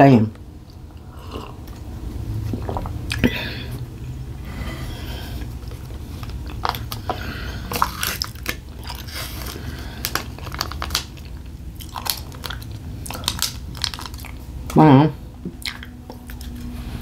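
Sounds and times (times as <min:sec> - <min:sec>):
steady low hum: 0:00.0 - 0:17.0
person chewing crunchy food: 0:00.6 - 0:14.6, 0:15.4 - 0:17.0.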